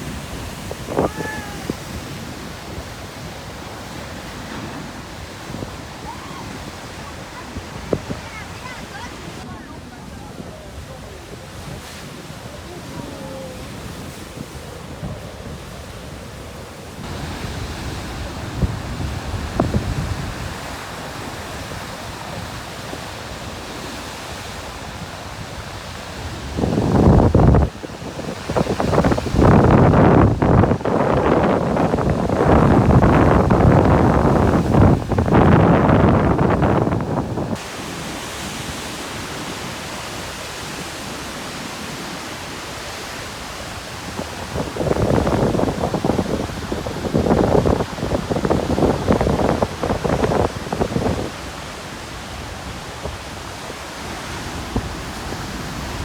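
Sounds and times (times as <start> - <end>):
wind buffeting microphone: 0.0 - 42.1, 42.7 - 56.0
deep rumble of surf: 0.0 - 56.0
ocean surf on rocks: 0.0 - 56.0.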